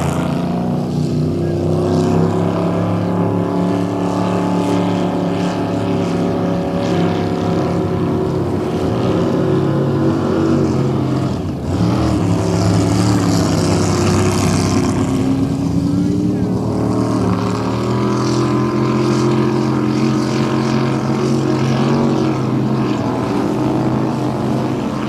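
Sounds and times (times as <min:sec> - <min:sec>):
racing motorboat engine: 0:00.0 - 0:25.0.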